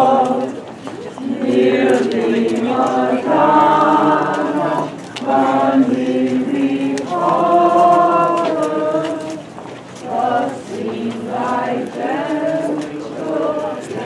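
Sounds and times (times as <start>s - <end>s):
crowd singing a hymn: 0.0s - 14.0s.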